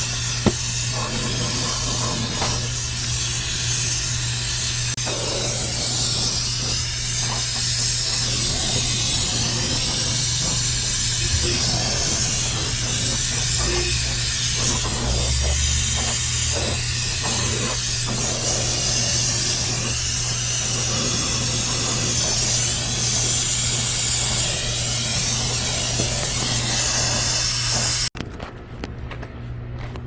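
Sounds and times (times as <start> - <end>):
gas hissing under pressure: 0.0 - 28.1.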